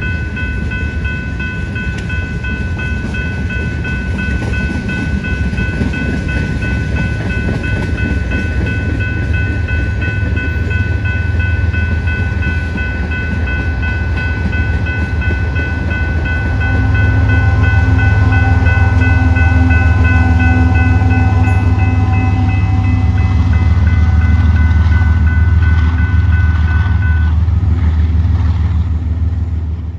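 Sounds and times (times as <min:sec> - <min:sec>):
crossing bell ringing: 0:00.0 - 0:27.9
diesel locomotive engine: 0:00.0 - 0:29.9.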